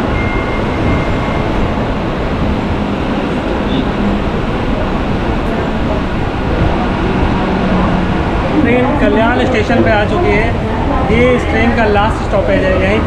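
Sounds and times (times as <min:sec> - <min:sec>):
electric train running on rails: 0:00.0 - 0:13.0.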